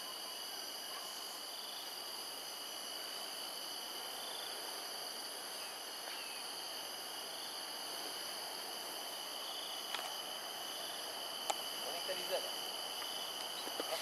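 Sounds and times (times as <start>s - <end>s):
insect chorus: 0.0s - 14.0s
soft hiss: 0.0s - 14.0s.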